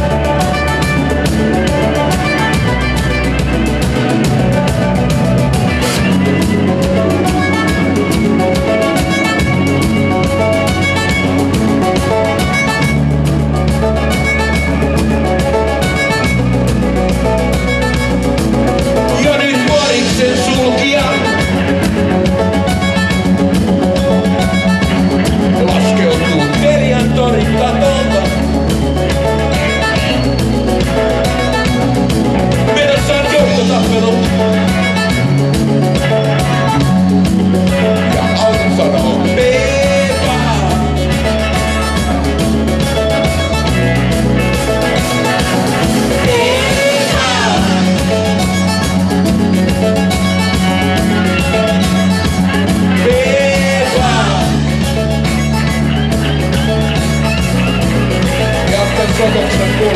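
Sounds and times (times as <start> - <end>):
bass line: 0.0 - 59.9
drum kit beat: 0.0 - 59.9
electric guitar: 0.0 - 59.9.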